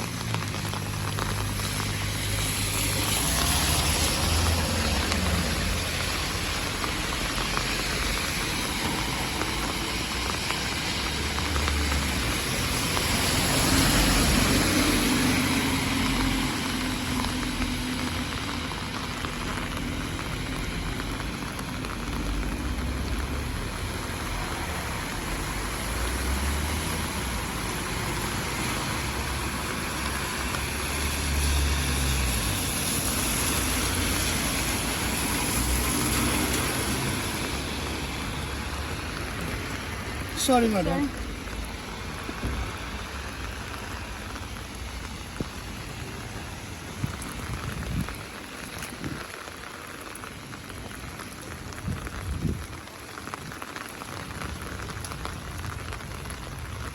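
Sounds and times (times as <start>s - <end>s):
rain hiss: 0.0s - 56.9s
traffic on wet road: 0.0s - 56.9s.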